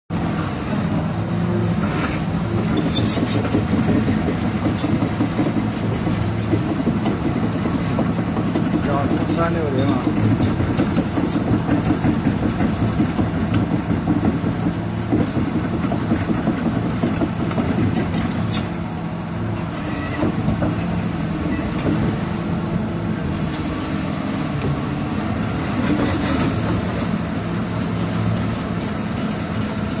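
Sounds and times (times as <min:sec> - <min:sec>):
excavator diesel engine running: 0:00.1 - 0:30.0.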